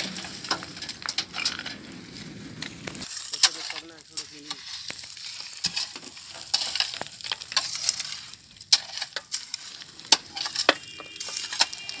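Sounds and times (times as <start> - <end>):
shovel scraping gravelly soil: 0.0 - 12.0
small stones clicking: 0.0 - 12.0.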